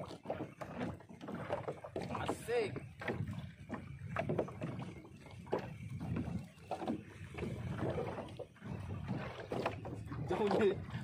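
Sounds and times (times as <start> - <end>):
boat rumbling on water: 0.0 - 11.0.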